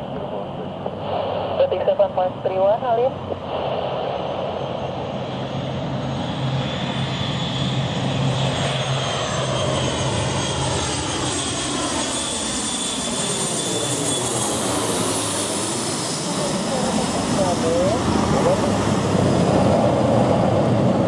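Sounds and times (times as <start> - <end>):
jet passing low overhead: 0.0 - 21.0.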